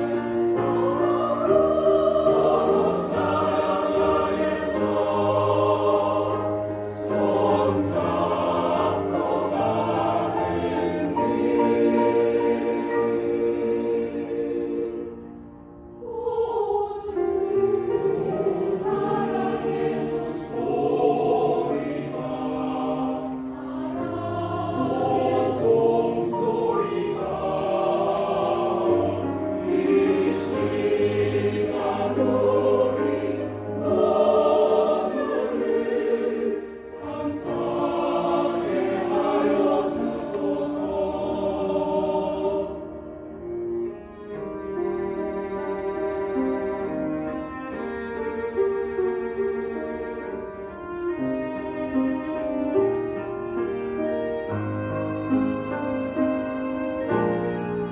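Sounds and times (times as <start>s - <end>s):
mixed choir singing a hymn: 0.0s - 57.9s.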